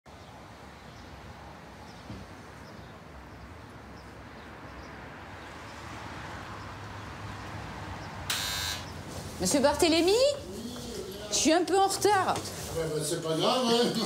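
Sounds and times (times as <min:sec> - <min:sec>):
distant traffic hum: 0:00.1 - 0:14.0.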